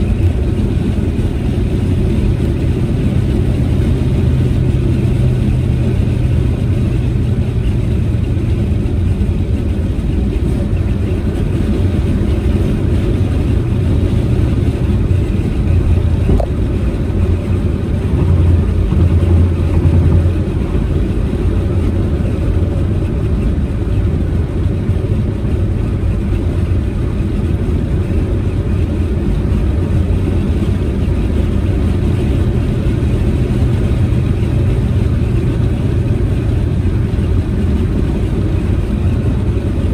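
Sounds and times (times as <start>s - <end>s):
car engine droning: 0.0s - 39.9s
tyre road noise: 0.0s - 39.9s.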